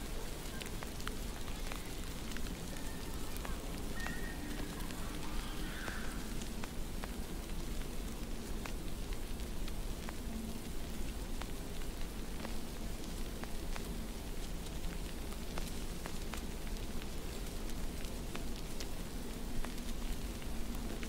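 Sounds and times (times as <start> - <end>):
crackling clicks and pops: 0.0 - 21.0
film hiss: 0.0 - 21.0.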